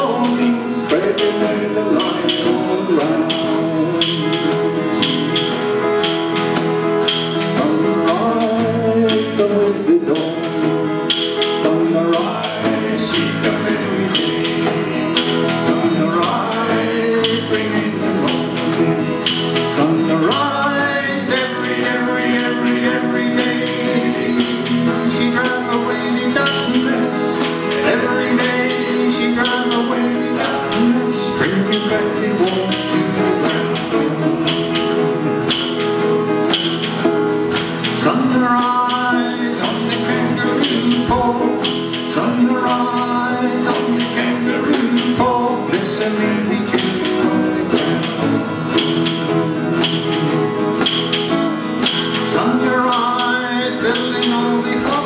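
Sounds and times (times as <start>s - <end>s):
acoustic guitars strumming: 0.0s - 55.0s
hand percussion shaker: 0.0s - 55.0s
people singing: 0.0s - 55.0s.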